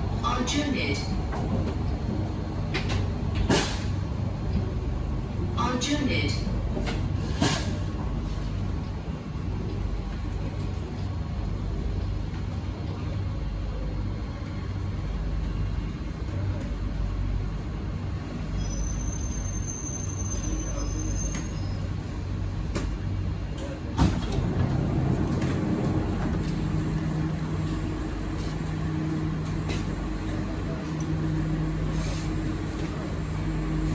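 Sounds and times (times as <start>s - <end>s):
train equipment humming: 0.0s - 33.9s.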